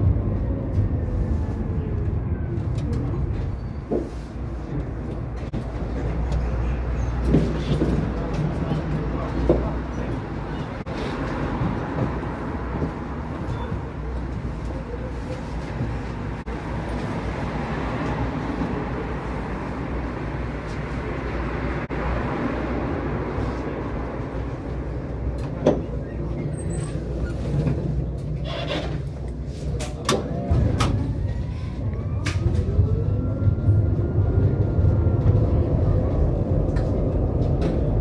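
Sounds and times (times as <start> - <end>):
tram wheels rumbling on track: 0.0 - 38.0.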